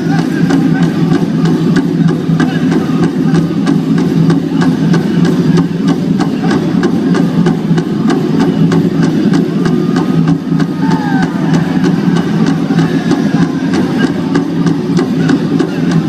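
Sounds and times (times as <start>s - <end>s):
big drum beaten rapidly: 0.0s - 16.0s.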